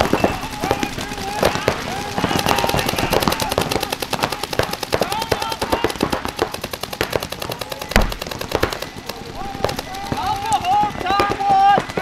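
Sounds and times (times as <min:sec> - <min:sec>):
paintball guns firing rapidly: 0:00.0 - 0:12.0
people shouting: 0:00.0 - 0:12.0.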